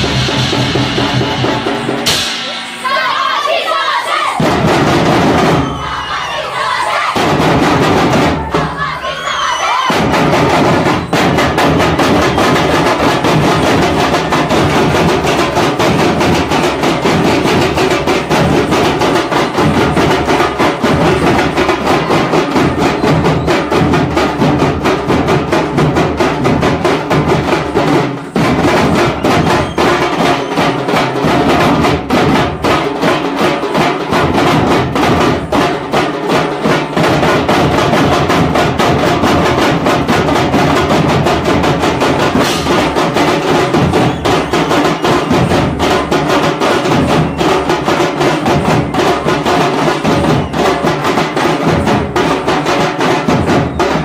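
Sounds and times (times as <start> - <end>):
drum ensemble beating fast: 0.0 - 54.0.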